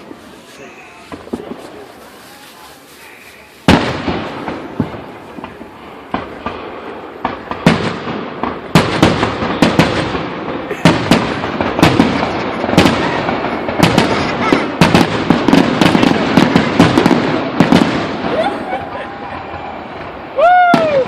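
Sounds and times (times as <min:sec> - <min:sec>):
fireworks exploding: 0:00.0 - 0:21.0
fireworks rumble and crackle: 0:00.0 - 0:21.0.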